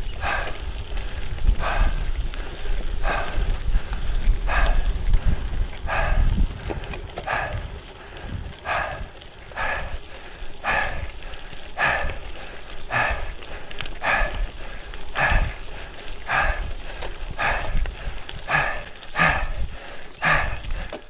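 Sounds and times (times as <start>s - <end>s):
cyclist breathing hard: 0.0s - 21.0s
wind rumble on microphone: 0.0s - 21.0s.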